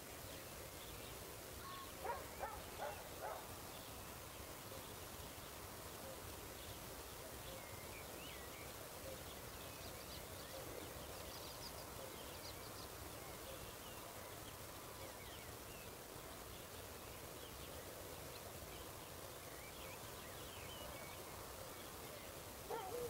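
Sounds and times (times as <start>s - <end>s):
steady background hiss: 0.0s - 23.0s
small birds chirping: 0.1s - 23.0s.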